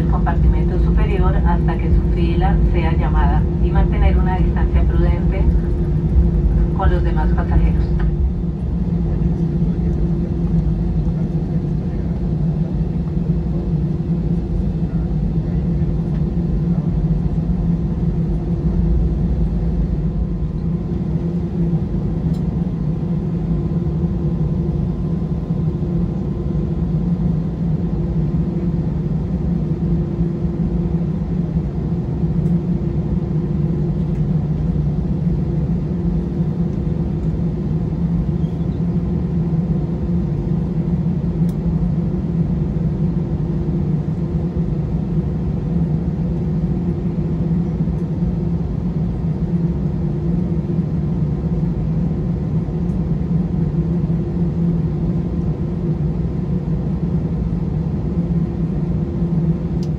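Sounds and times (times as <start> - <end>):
jet engines idling drone: 0.0 - 59.9.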